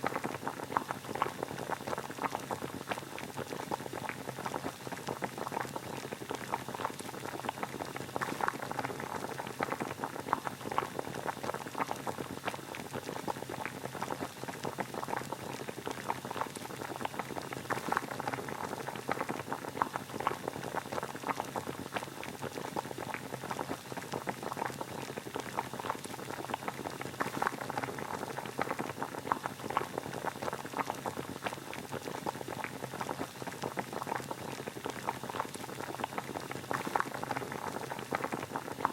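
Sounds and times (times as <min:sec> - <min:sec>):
water boiling: 0:00.0 - 0:38.9.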